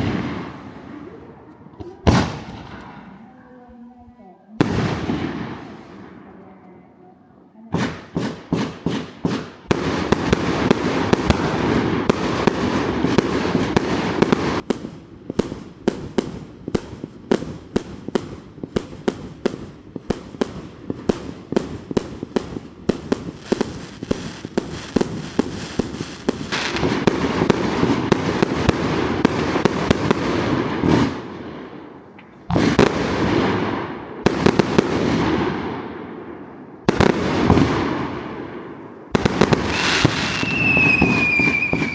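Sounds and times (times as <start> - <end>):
fireworks bangs and crackle: 0.0 - 3.4, 4.6 - 6.4, 7.7 - 41.9
big firework bursts: 0.0 - 3.6, 4.6 - 6.4, 7.7 - 41.9.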